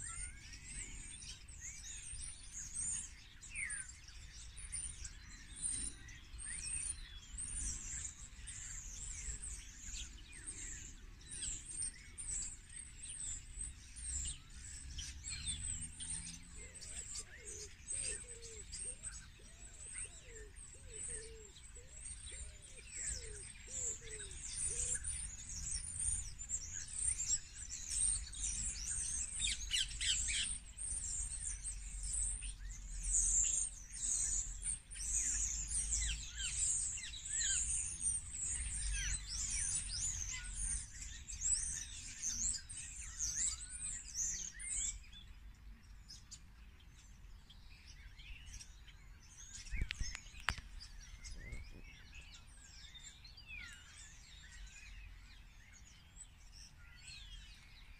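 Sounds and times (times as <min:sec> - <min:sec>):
small birds chirping and trilling: 0:00.0 - 0:57.9.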